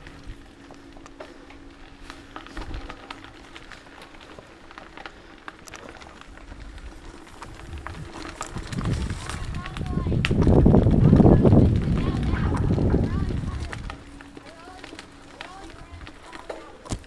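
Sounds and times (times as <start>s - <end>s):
faint steady hum: 0.0s - 17.0s
low uneven rumble: 0.0s - 17.0s
small clicks and ticks: 0.0s - 17.0s.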